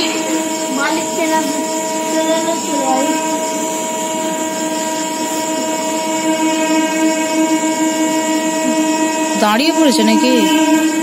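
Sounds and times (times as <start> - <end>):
train horn blast: 0.0 - 11.0.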